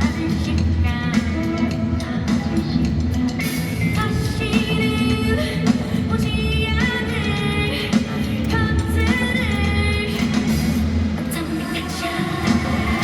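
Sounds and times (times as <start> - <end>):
bass guitar: 0.0 - 11.4
drums: 0.0 - 13.0
person singing: 0.0 - 13.0.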